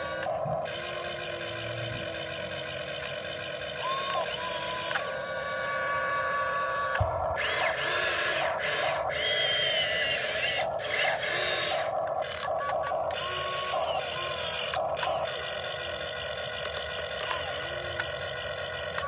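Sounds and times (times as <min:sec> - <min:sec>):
electric gear motors whining: 0:00.0 - 0:19.0.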